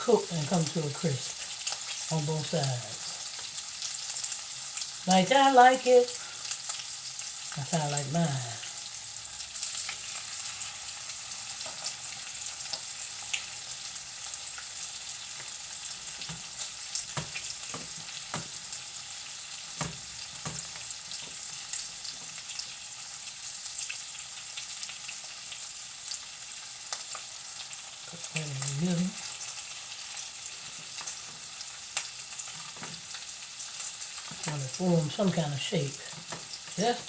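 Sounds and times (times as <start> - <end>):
meat sizzling in a frying pan: 0.0 - 37.0.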